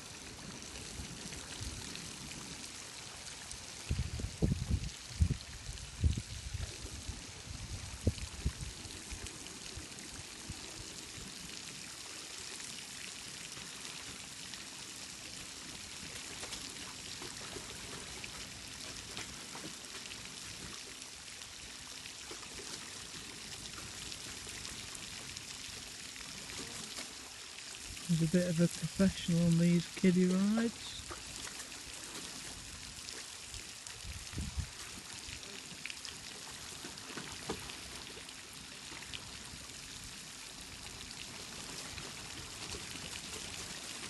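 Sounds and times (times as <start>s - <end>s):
fountain water splashing: 0.0s - 44.0s.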